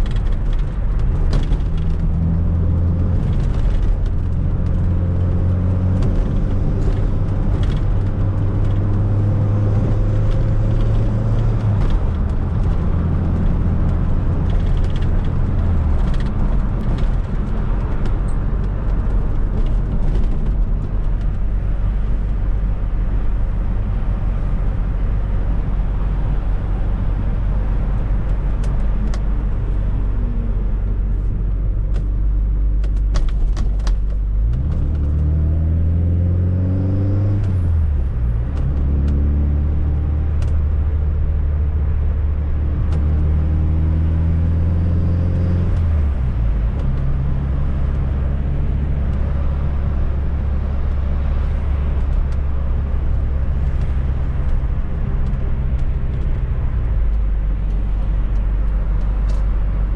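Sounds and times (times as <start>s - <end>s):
car engine driving: 0.0s - 59.9s
tyre and road rumble: 0.0s - 59.9s.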